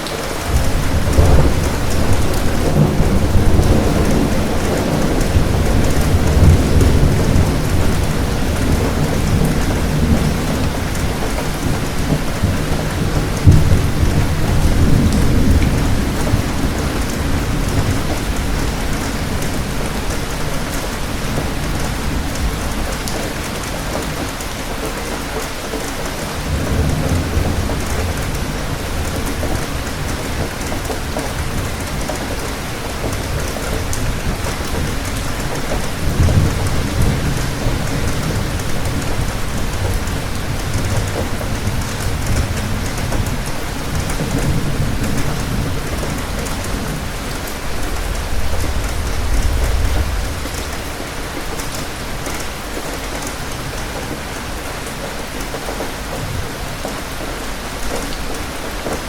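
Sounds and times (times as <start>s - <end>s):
thunder rumbling: 0.0s - 25.2s, 26.4s - 59.0s
rain hissing: 0.0s - 59.0s.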